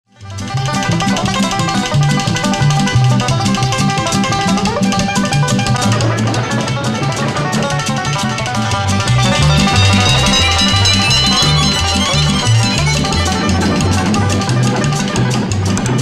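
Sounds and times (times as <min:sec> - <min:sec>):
plucked strings music with beat: 0:00.1 - 0:16.0.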